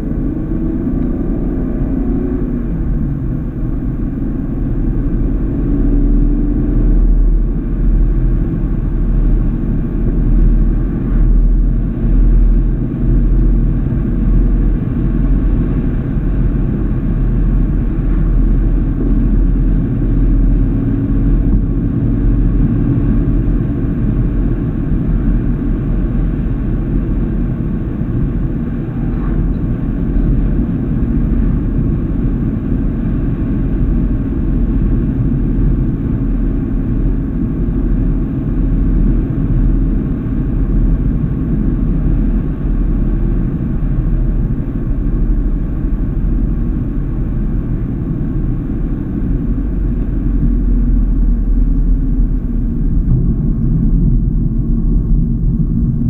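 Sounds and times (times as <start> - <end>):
car interior road and engine rumble: 0.0 - 56.0.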